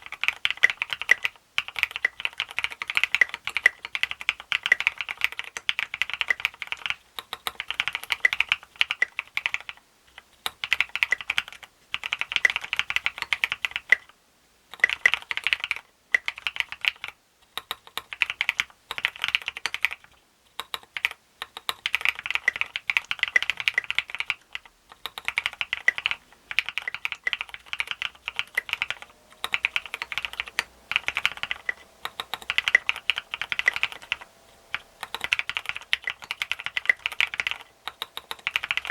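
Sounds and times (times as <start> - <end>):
mechanical keyboard keys clacking: 0.0 - 14.1, 14.8 - 38.9.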